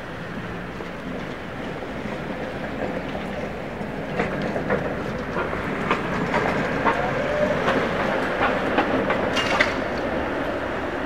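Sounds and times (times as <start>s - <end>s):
tram rumble: 0.0s - 11.0s
tram wheels clattering over rail joints: 0.0s - 11.0s.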